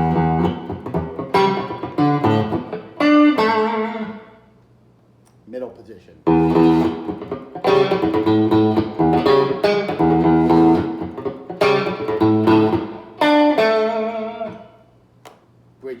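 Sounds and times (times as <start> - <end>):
clean electric guitar chords: 0.0 - 4.4, 6.3 - 14.8.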